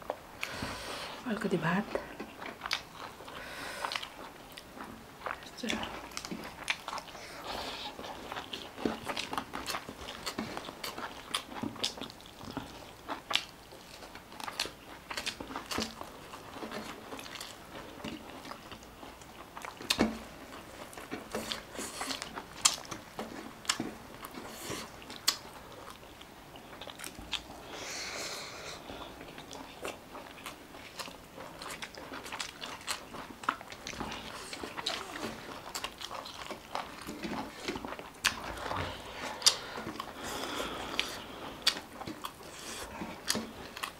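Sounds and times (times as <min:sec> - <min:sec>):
chewing and biting: 0:02.0 - 0:27.8, 0:28.8 - 0:43.9.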